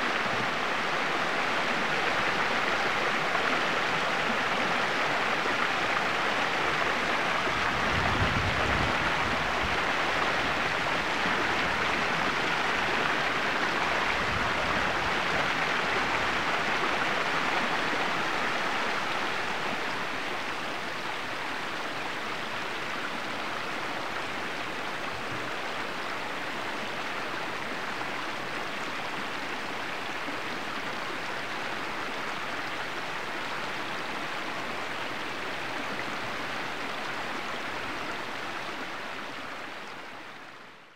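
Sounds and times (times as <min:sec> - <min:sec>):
stream trickling over rocks: 0:00.0 - 0:40.9.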